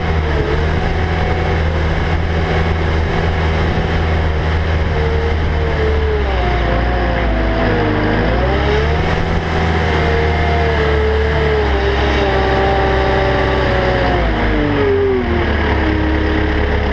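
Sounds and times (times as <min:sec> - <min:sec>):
diesel engine running: 0:00.0 - 0:16.9
engine whine: 0:00.0 - 0:16.9.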